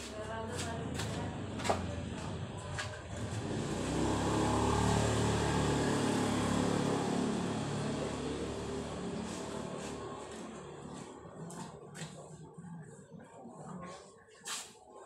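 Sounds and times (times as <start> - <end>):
vehicle engine running: 0.2 - 12.3.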